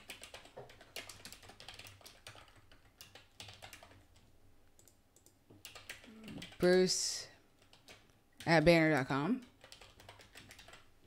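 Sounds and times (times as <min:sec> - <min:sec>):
keyboard typing: 0:00.0 - 0:06.9, 0:07.6 - 0:10.9.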